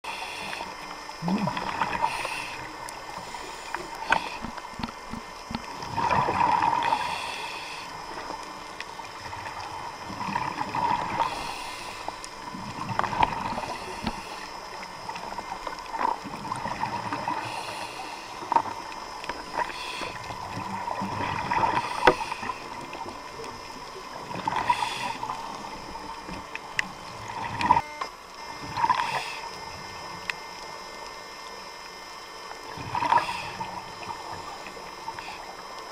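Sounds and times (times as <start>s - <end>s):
constant hiss: 0.0s - 35.9s.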